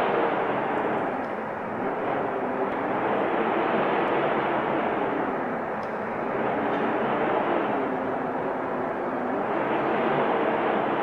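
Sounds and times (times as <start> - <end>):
snowstorm wind rushing: 0.0 - 11.0.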